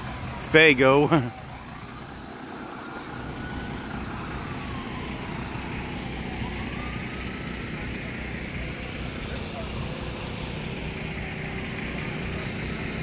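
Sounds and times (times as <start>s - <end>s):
faint emergency siren wailing: 0.0s - 13.0s
truck engine running: 0.0s - 13.0s.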